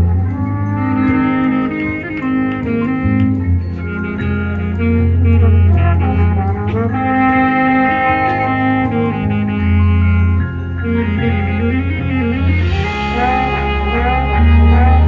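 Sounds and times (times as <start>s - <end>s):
deep bass notes: 0.0s - 15.0s
marching band brass chords: 0.0s - 15.0s.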